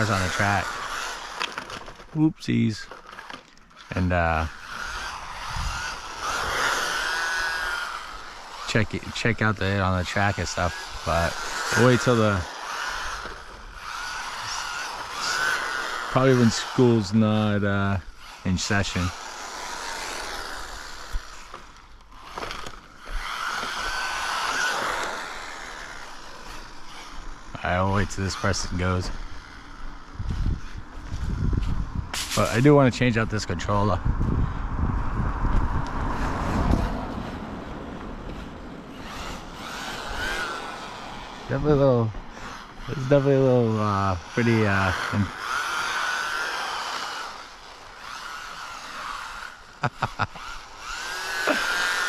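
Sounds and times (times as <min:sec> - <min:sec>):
electric motor whining: 0:00.0 - 0:52.0
gears and tyres hissing: 0:00.0 - 0:52.0.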